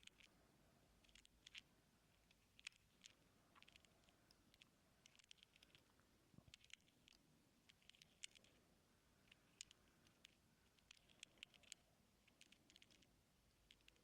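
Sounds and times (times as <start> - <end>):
tiny clicks and scratches in ear: 0.0 - 14.0.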